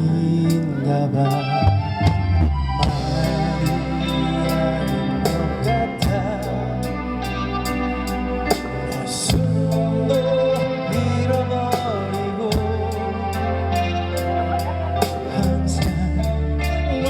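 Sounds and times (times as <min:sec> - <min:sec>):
guitar: 0:00.0 - 0:17.0
held bass notes: 0:00.0 - 0:17.0
person singing: 0:00.0 - 0:17.0.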